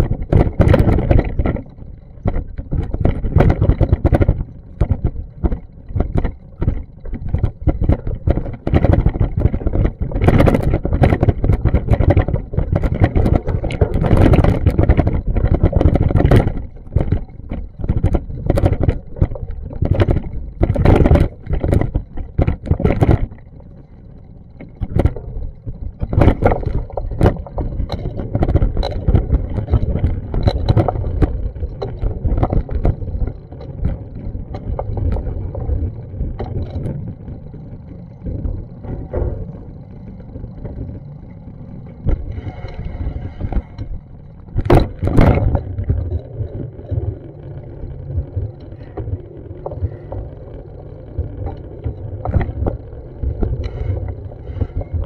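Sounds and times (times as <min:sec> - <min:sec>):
constant low rumble: 0:00.0 - 0:55.0.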